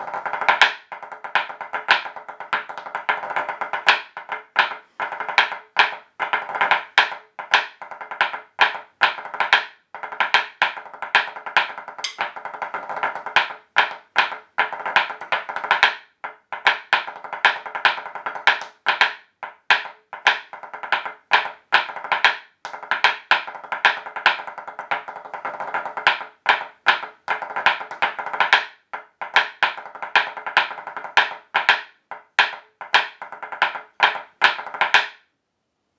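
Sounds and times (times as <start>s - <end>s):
rapid sharp taps: 0.0s - 35.2s.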